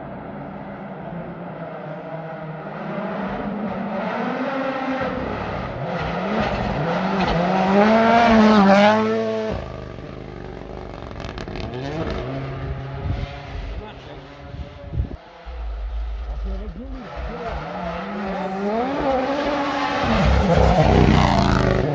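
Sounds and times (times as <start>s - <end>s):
rally car engine passing: 0.0s - 21.9s.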